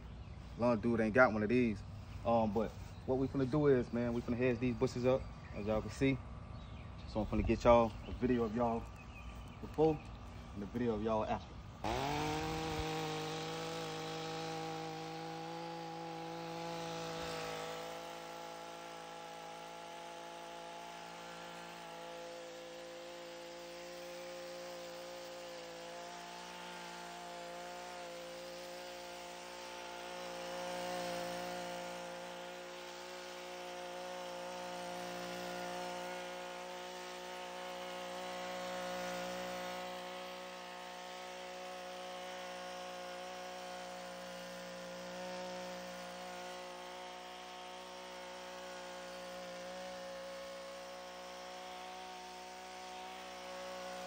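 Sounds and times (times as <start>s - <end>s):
hedge trimmer running: 0.0s - 54.0s.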